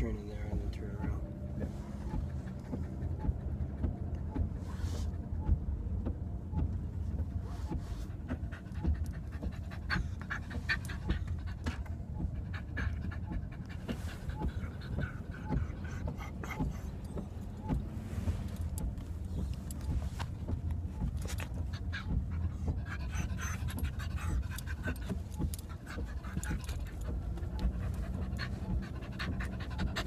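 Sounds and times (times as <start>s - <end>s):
dog panting: 0.0s - 6.0s, 6.6s - 30.0s
car road rumble: 0.0s - 30.0s
clicks and rustles on seat: 0.4s - 30.0s.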